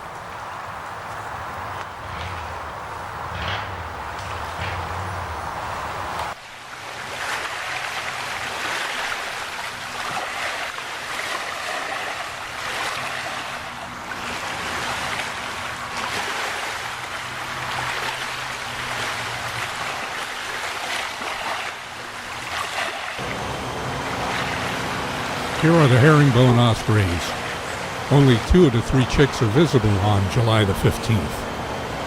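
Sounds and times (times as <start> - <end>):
river water rushing: 0.0 - 32.0
wind: 0.0 - 32.0.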